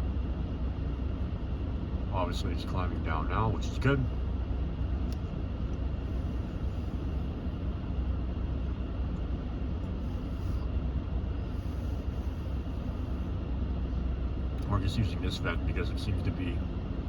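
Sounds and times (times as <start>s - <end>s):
blower fan running: 0.0s - 17.0s
engine idling rumble: 0.0s - 17.0s.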